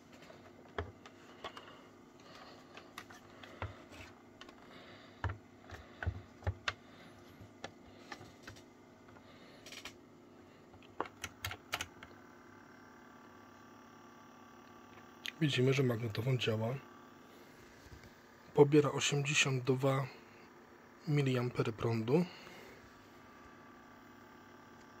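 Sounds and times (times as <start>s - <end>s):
cassette recorder faint whine: 0.0s - 25.0s.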